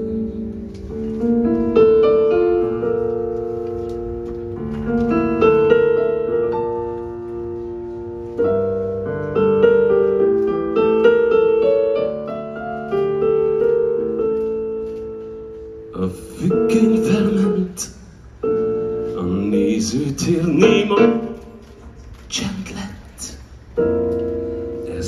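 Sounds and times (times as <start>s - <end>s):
piano keyboard chords and melody: 0.0s - 22.0s, 23.6s - 25.0s.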